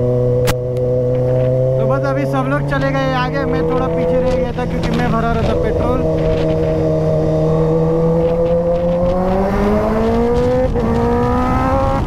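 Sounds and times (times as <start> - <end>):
motorcycle engine accelerating: 0.0 - 12.0
wind noise: 0.0 - 12.0.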